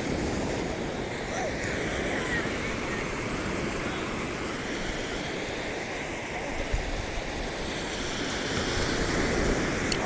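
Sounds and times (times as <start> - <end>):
ocean surf washing: 0.0 - 10.0
wind rumble on microphone: 0.0 - 10.0.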